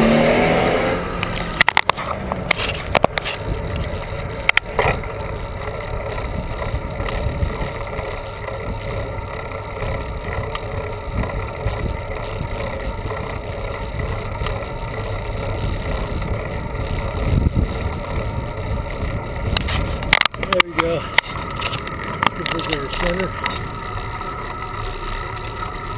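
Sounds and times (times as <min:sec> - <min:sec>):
bicycle tyre road noise: 0:00.0 - 0:25.9
wind rumble on microphone: 0:01.0 - 0:24.2
faint ticks: 0:01.2 - 0:25.9.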